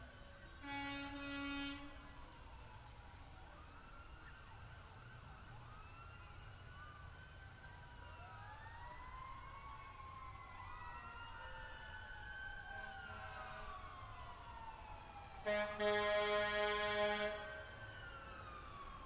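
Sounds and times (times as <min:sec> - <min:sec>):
emergency sirens wailing: 0:00.0 - 0:19.0.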